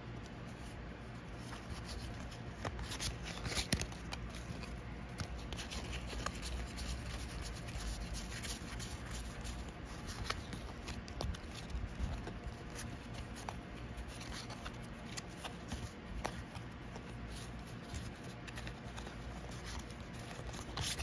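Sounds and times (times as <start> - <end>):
cards sliding and flicking: 0.4 - 21.0.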